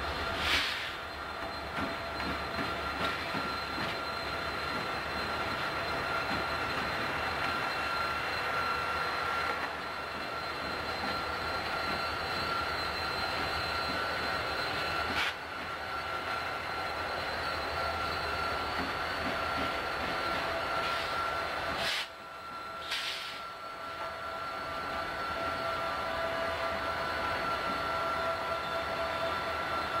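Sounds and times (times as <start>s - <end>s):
diesel locomotive engines running: 0.0s - 30.0s
train wheels rolling on rails: 0.0s - 30.0s.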